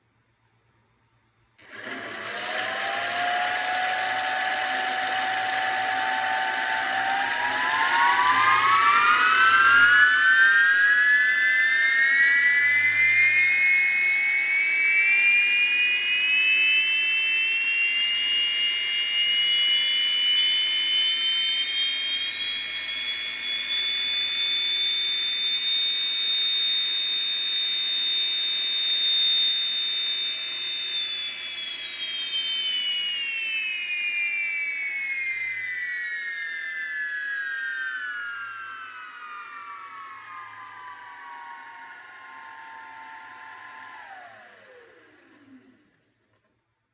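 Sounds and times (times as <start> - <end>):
model jet engine whining: 1.6 - 46.5.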